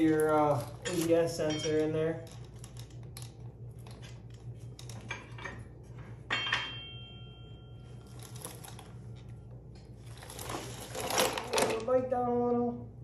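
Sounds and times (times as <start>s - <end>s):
metal tools clinking: 0.0s - 4.2s, 4.8s - 9.3s, 10.0s - 12.1s
steady low hum: 0.0s - 13.0s.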